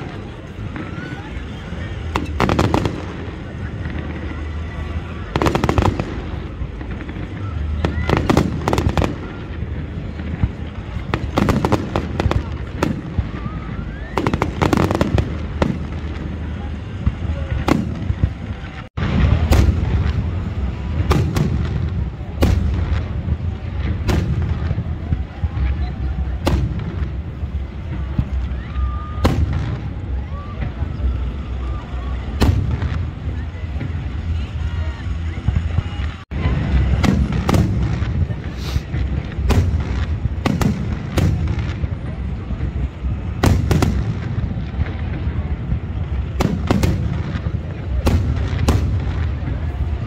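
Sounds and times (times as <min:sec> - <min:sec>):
low rumble of bursts: 0:00.0 - 0:50.0.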